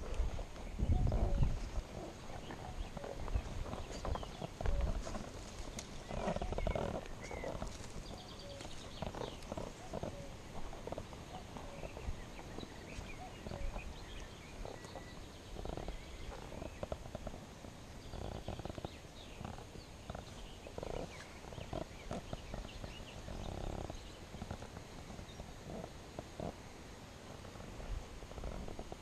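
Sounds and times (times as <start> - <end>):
footsteps on rock and gravel: 0.0 - 26.6
small birds chirping: 0.0 - 29.0.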